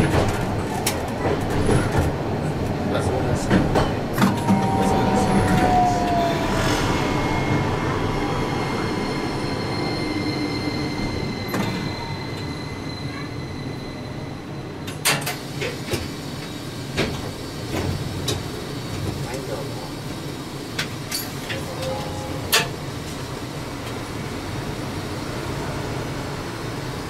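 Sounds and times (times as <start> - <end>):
tram running with motor whine: 0.0 - 27.0.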